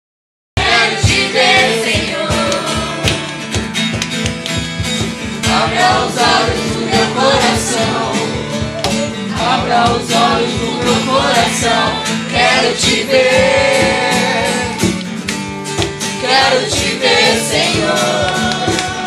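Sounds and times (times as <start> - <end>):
cajon beat: 0.6 - 19.0
strummed acoustic guitar: 0.6 - 19.0.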